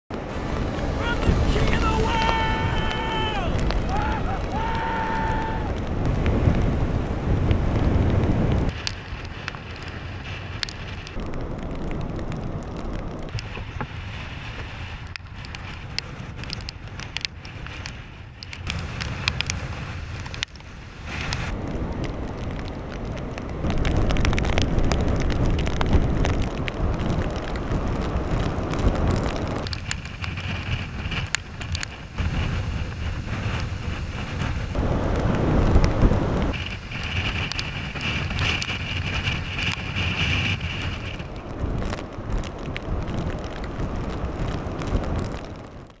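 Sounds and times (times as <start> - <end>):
wind buffeting microphone: 0.1 - 46.0.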